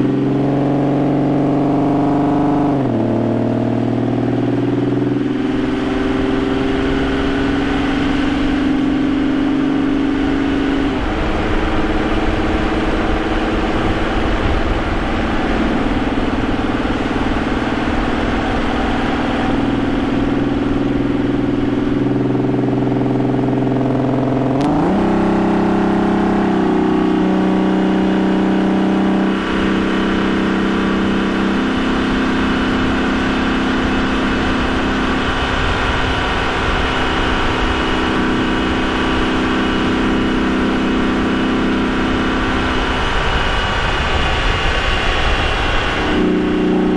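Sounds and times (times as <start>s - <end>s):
car engine running: 0.0s - 46.9s
tyre and road noise: 0.0s - 46.9s.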